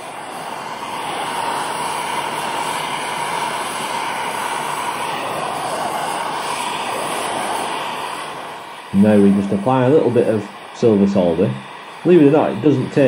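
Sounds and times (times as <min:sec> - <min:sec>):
blowtorch flame hissing: 0:00.0 - 0:13.0.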